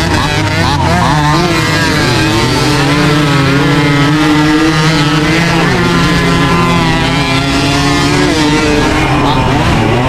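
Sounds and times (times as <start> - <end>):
two-stroke engine racing: 0.0 - 10.0.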